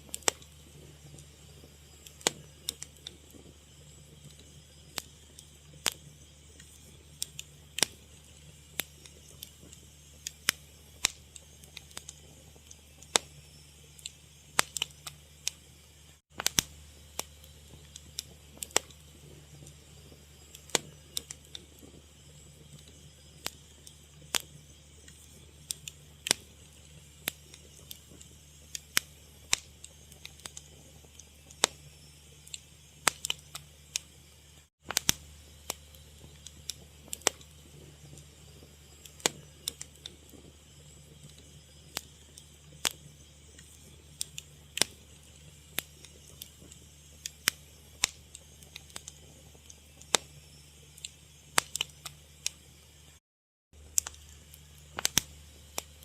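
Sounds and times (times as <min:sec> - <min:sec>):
faint steady hiss and hum: 0:00.0 - 0:53.2, 0:53.8 - 0:56.0
wood fire crackling: 0:00.0 - 0:53.2, 0:53.8 - 0:56.0.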